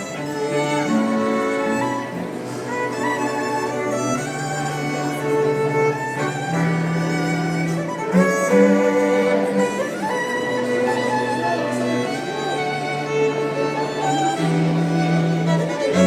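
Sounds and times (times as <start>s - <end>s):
low sustained string notes: 0.0s - 16.0s
violin playing long notes: 0.0s - 16.0s.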